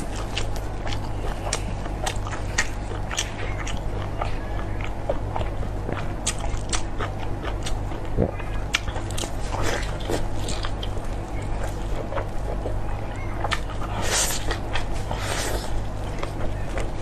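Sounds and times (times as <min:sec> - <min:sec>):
crunchy chewing: 0:00.0 - 0:17.0
steady low hum: 0:00.0 - 0:17.0.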